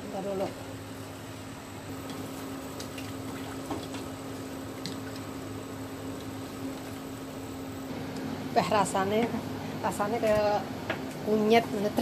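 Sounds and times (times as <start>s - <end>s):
induction cooktop humming: 0.0s - 12.0s.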